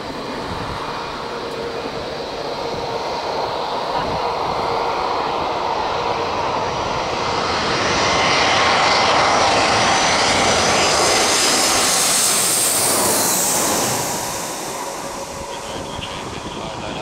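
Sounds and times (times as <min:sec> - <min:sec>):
jet engines passing overhead: 0:00.0 - 0:17.0.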